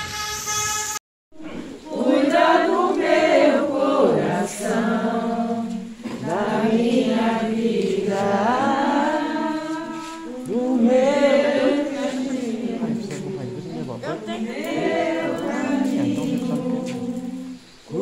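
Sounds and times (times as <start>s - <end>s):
group singing a hymn: 1.4s - 18.0s.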